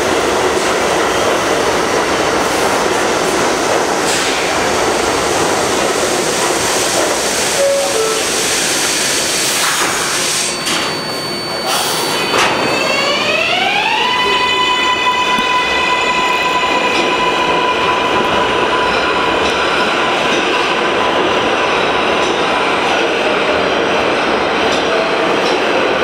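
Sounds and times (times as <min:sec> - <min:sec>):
train clunks: 0:00.0 - 0:13.2, 0:16.4 - 0:26.0
rumble of train wheels: 0:00.0 - 0:26.0.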